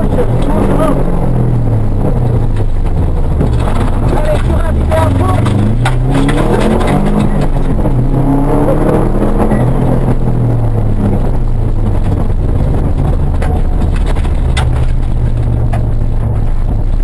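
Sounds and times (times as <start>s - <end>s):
car engine droning: 0.0s - 17.0s
road noise: 0.0s - 17.0s.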